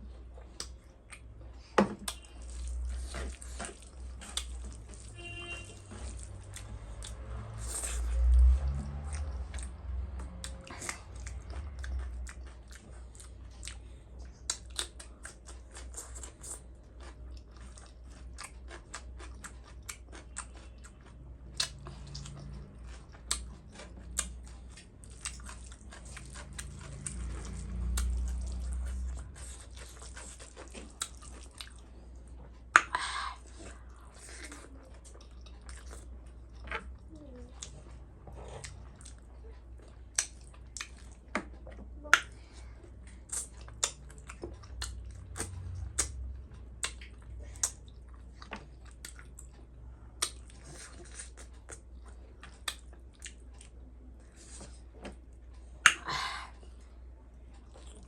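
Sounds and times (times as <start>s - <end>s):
person chewing and crunching: 0.0s - 56.3s, 57.5s - 58.0s.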